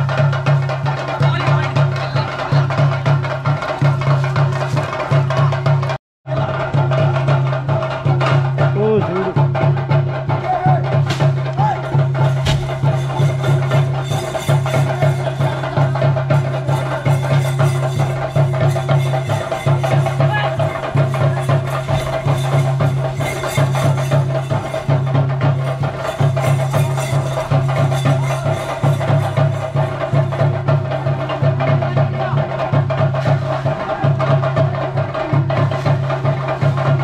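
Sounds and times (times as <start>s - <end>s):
drums beaten fast: 0.0s - 37.0s.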